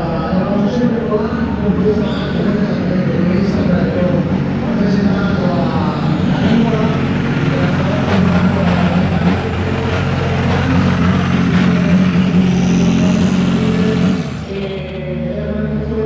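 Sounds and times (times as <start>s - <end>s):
car engine at low revs: 0.0s - 16.0s.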